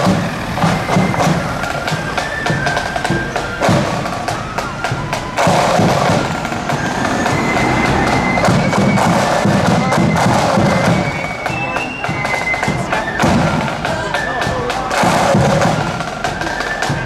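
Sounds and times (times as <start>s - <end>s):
side drum and bass drum beats: 0.0s - 17.0s
wind instruments melody: 0.0s - 17.0s.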